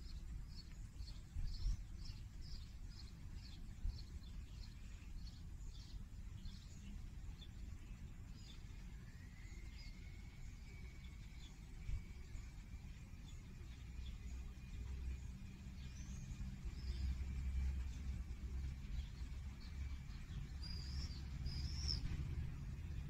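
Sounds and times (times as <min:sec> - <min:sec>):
distant traffic: 0:00.0 - 0:23.0
small bird chirping: 0:00.0 - 0:23.0
wind: 0:00.0 - 0:23.0.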